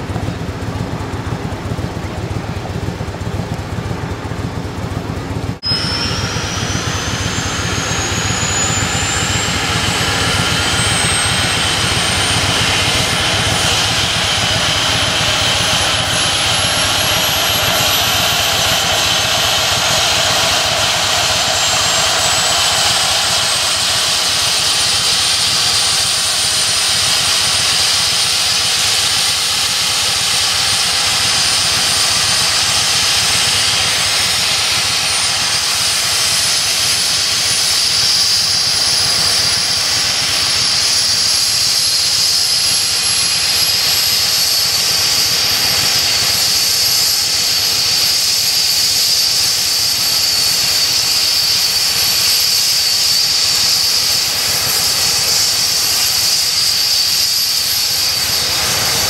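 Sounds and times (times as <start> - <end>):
helicopter rotor noise: 0.0 - 59.0
helicopter turbine whine: 0.0 - 59.0.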